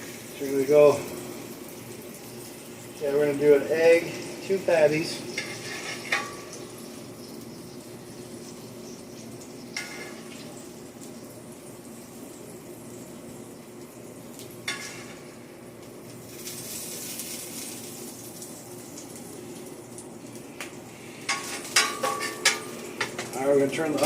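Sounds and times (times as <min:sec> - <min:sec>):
food sizzling on a griddle: 0:00.0 - 0:24.0.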